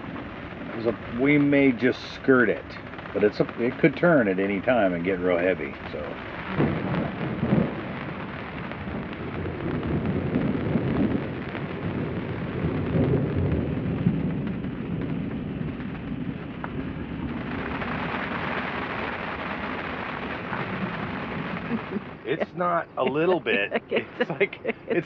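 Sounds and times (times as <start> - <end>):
rolling thunder: 0.0 - 23.0
heavy rain pouring: 0.0 - 25.0.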